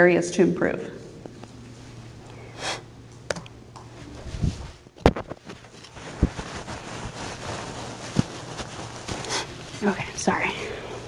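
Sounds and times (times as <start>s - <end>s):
sound system hum: 0.0s - 11.0s.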